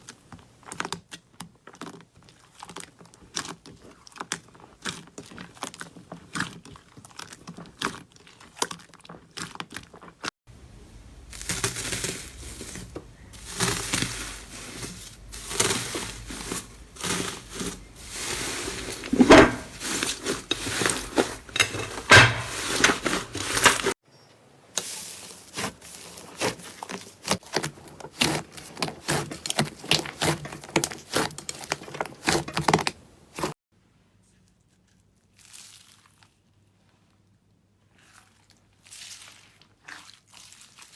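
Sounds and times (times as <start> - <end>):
slime crackling and crinkling: 0.0 - 24.0, 24.8 - 33.6, 35.2 - 36.4, 37.9 - 40.9.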